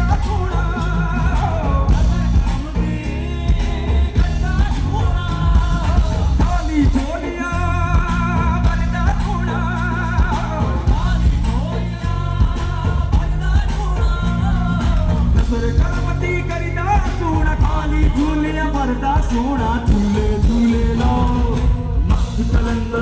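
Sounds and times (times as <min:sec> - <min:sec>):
loud music with singing: 0:00.0 - 0:23.0.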